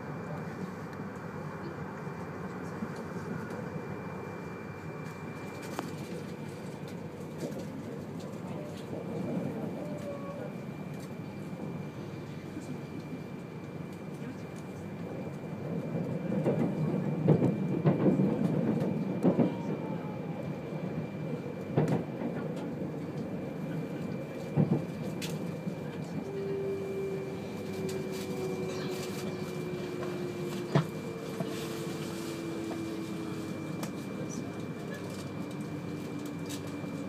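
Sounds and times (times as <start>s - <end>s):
train running noise inside car: 0.0s - 37.0s.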